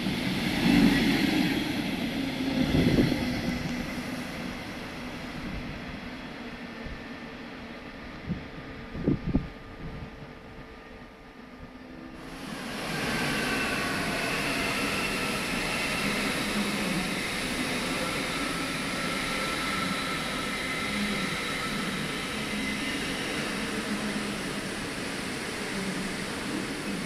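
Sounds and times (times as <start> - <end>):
train wheels on rails: 0.0 - 10.4, 12.0 - 27.0.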